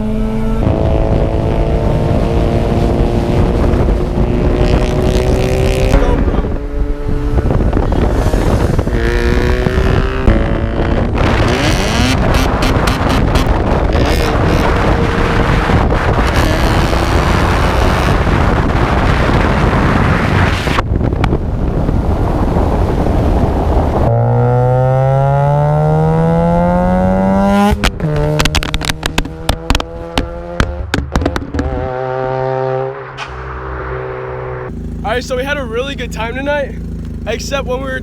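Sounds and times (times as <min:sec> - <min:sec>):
car engine accelerating: 0:00.0 - 0:20.8, 0:21.7 - 0:38.0
rushing wind and road noise: 0:00.0 - 0:38.0.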